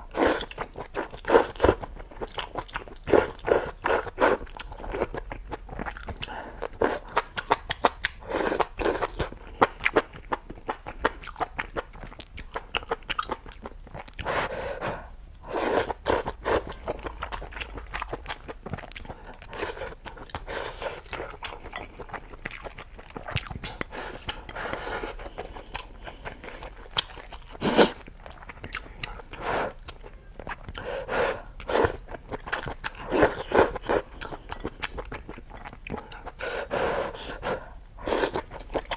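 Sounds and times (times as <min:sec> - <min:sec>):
person chewing and crunching food: 0:00.0 - 0:14.9, 0:15.5 - 0:38.9.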